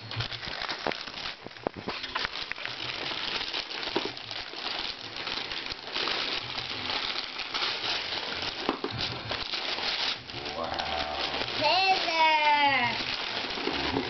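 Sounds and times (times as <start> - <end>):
wrapping paper rustling and tearing: 0.0 - 14.0.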